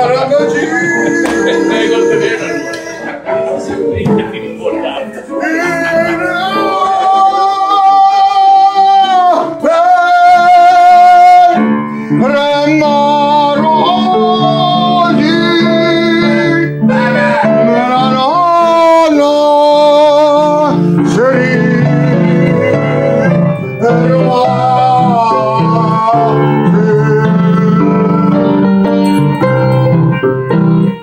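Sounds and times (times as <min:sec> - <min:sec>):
operatic voice singing: 0:00.0 - 0:03.4, 0:05.0 - 0:28.7
piano chords: 0:00.0 - 0:31.0.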